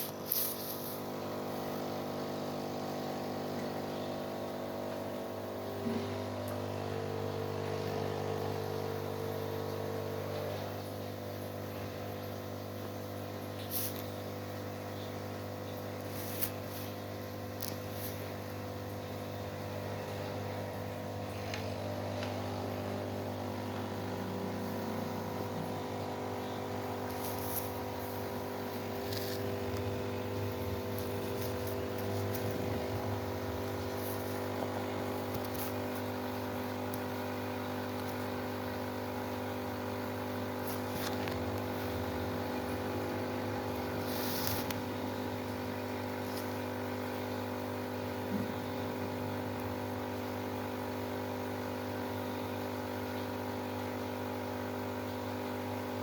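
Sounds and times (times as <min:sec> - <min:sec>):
machine hum: 0:00.1 - 0:15.9, 0:16.8 - 0:51.0.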